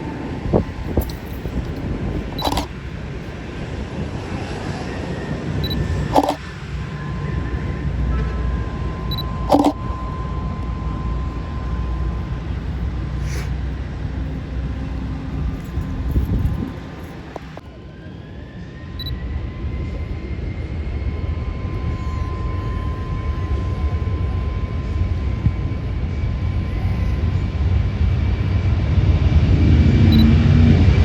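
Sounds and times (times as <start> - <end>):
jet engine rumble and whine: 0.0 - 31.0.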